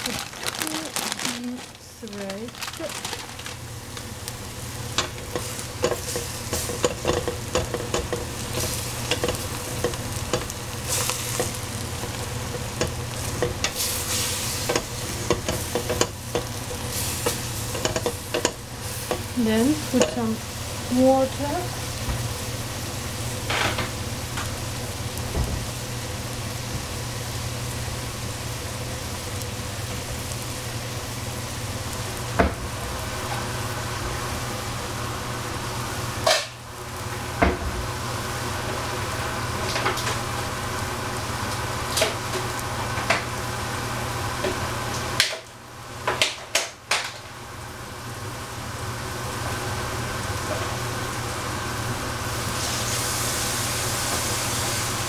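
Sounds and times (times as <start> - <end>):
vegetables sizzling in a pan: 0.0 - 55.0.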